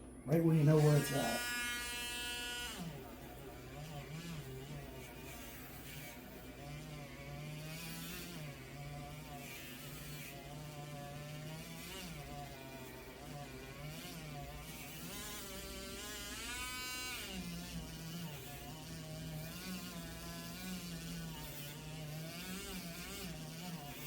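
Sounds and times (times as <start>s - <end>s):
small electric motor whirring: 0.4s - 24.0s.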